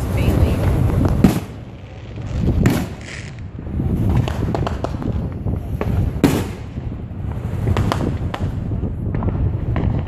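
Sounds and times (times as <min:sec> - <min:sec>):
wind buffeting microphone: 0:00.0 - 0:10.0
firecracker bangs: 0:00.4 - 0:10.0.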